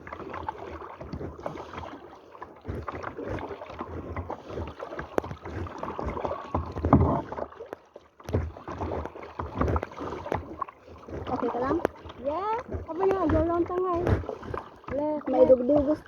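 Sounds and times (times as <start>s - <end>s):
paddles splashing in water: 0.0s - 16.0s.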